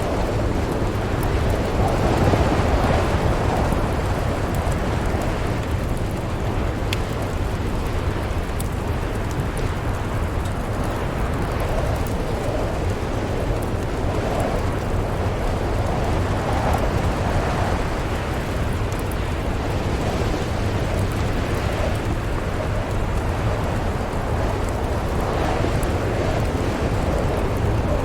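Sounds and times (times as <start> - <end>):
wind blowing in gusts: 0.0 - 28.0
wood fire crackling: 0.0 - 28.0.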